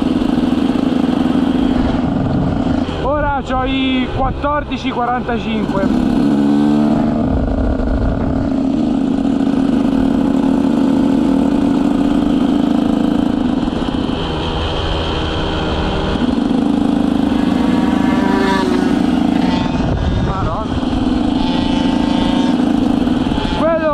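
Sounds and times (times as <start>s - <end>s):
motocross bike engine: 0.0s - 23.9s.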